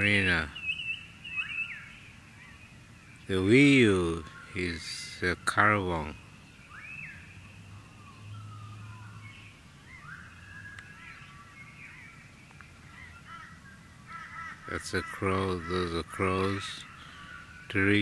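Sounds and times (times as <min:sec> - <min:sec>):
birds chirping and whistling: 0:00.0 - 0:18.0
low steady hum: 0:00.0 - 0:18.0.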